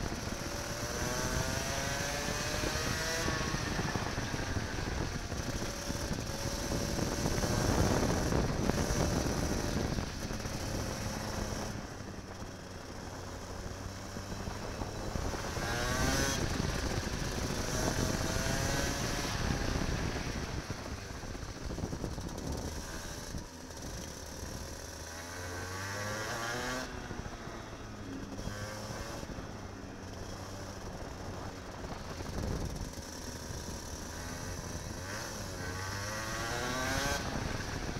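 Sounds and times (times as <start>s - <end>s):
kart engine revving: 0.0s - 37.9s.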